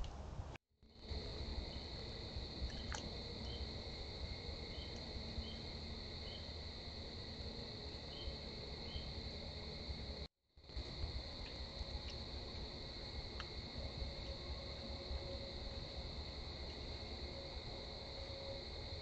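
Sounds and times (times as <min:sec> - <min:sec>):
insect chirping faintly: 0:00.8 - 0:19.0
crickets trilling: 0:00.9 - 0:19.0.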